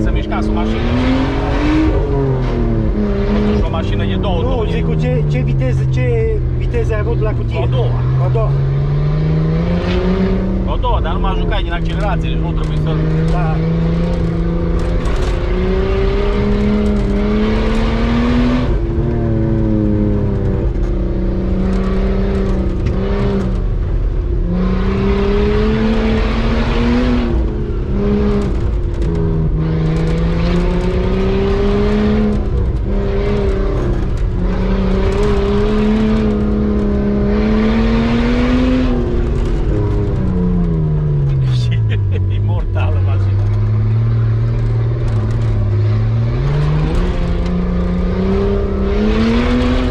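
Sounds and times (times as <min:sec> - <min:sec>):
car engine revving through gears: 0:00.0 - 0:49.9.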